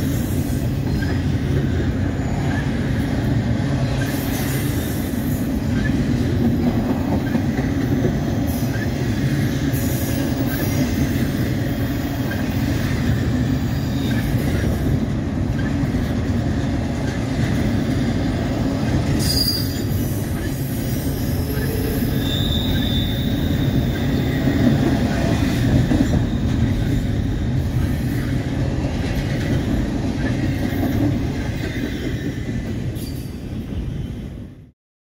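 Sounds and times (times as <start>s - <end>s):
rumble of steel wheels on rail: 0.0s - 34.7s.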